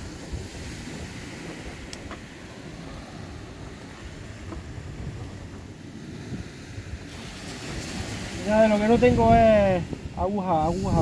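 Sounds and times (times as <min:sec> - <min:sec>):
surf washing on beach: 0:00.0 - 0:11.0
wind buffeting microphone: 0:00.0 - 0:11.0.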